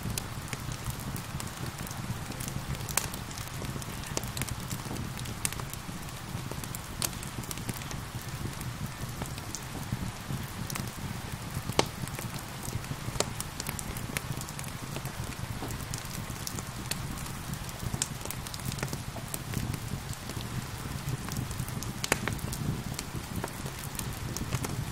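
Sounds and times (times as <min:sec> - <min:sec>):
gentle rain hissing: 0:00.0 - 0:24.9
wood fire crackling: 0:00.0 - 0:24.9.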